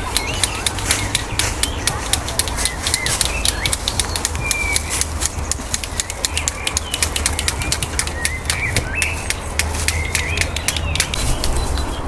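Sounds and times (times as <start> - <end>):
walnuts clacking together: 0.0 - 11.6.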